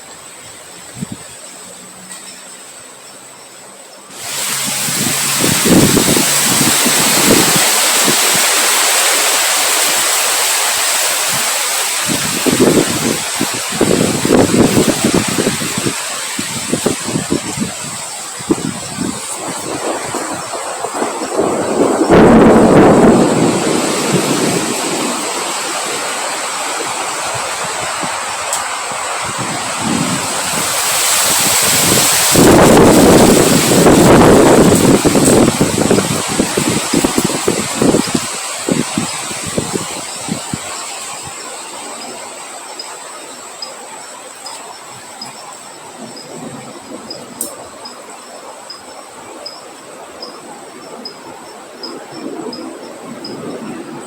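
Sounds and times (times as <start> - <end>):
wind buffeting microphone: 0.0 - 1.5, 4.1 - 54.0
strong wind hissing: 0.0 - 2.1, 4.1 - 54.0.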